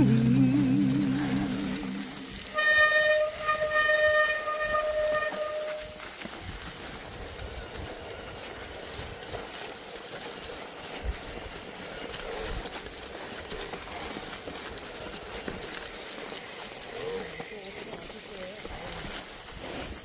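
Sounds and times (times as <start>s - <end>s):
rolling noise on snowy trail: 0.0s - 20.0s.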